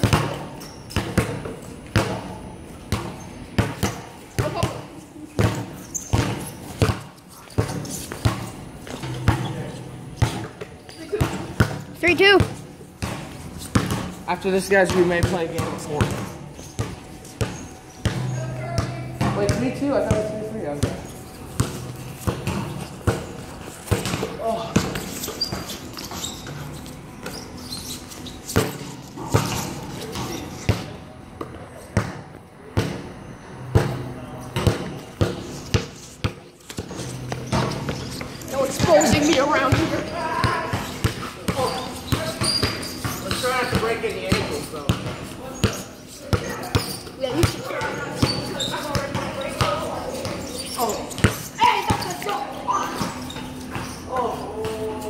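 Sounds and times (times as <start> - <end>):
basketball bouncing on concrete: 0.0 - 26.6, 27.2 - 55.0.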